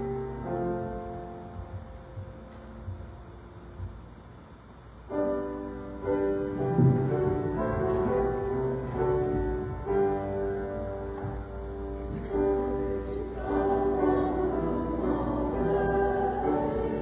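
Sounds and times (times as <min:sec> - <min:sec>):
slow chordal piano music: 0:00.0 - 0:17.0.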